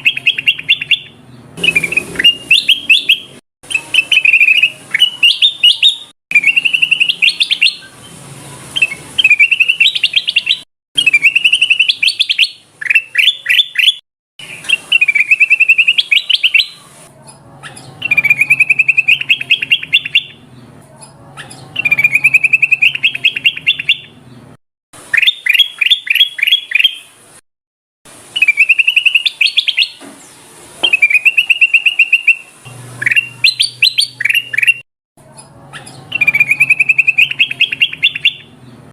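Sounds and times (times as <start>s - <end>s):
bulbul singing whistled phrases: 0.0s - 20.4s, 21.4s - 24.3s, 25.0s - 27.2s, 28.3s - 34.8s, 35.7s - 38.9s.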